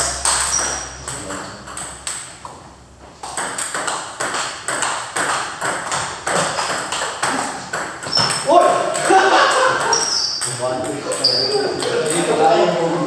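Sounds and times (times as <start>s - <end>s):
table tennis balls clicking: 0.0s - 2.6s, 3.2s - 12.5s.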